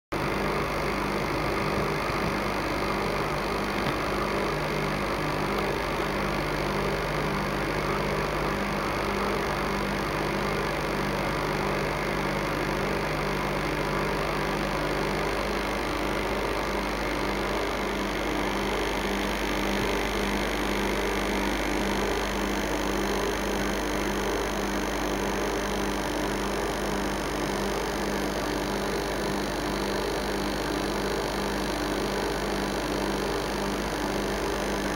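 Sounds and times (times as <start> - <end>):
aquarium air pump humming: 0.2 - 34.9.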